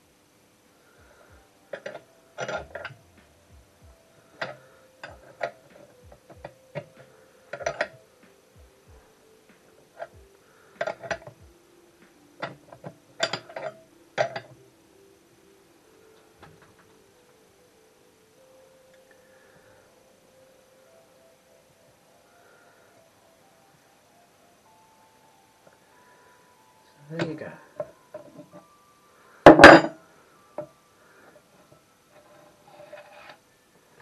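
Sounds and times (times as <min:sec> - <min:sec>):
faint steady ringing tone: 0:00.0 - 0:34.0.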